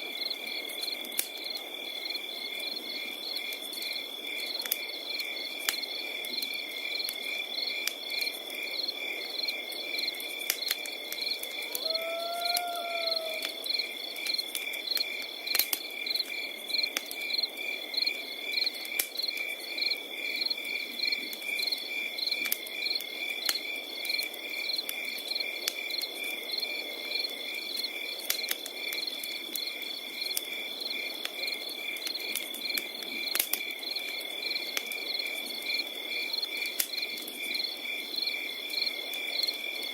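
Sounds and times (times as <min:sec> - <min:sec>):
fire crackling and popping: 0:00.0 - 0:39.9
crickets chirping: 0:00.1 - 0:39.9.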